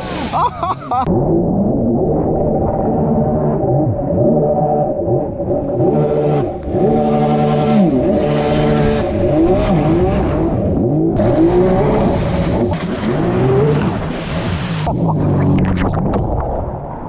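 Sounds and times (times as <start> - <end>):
jet ski engine revving: 0.0 - 15.8.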